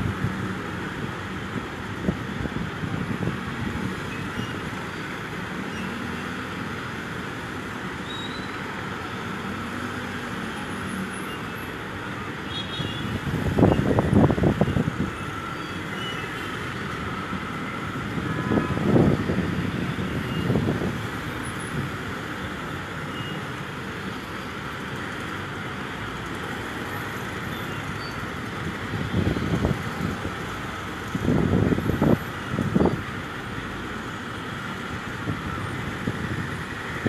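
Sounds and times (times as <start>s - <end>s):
road traffic hum: 0.0s - 37.0s.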